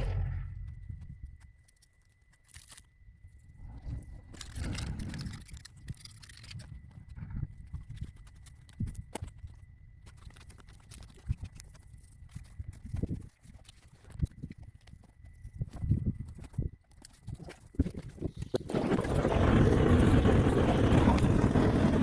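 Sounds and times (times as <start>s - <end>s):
cable and tools handling noise: 1.0s - 18.7s.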